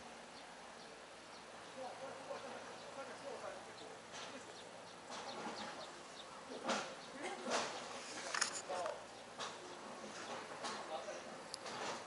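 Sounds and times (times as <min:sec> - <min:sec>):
quiet outdoor background noise: 0:00.0 - 0:12.0.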